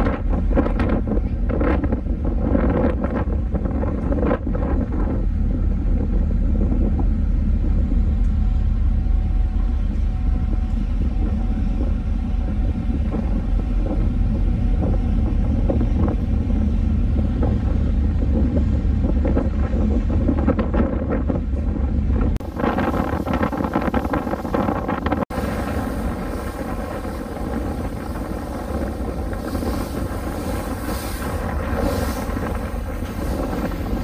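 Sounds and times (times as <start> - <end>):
ferry engines rumbling: 0.0 - 34.0.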